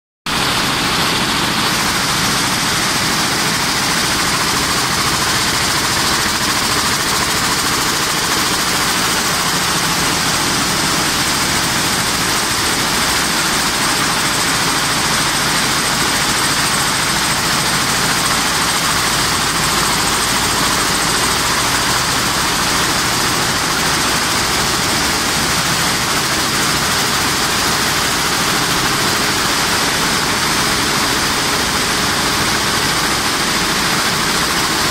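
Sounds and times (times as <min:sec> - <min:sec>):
weaving loom running: 0:00.3 - 0:34.9.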